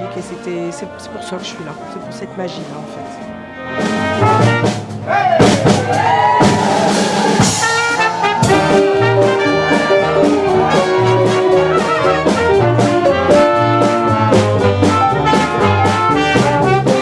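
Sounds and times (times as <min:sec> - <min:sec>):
swing jazz with brass: 0:00.0 - 0:06.1, 0:06.8 - 0:17.0.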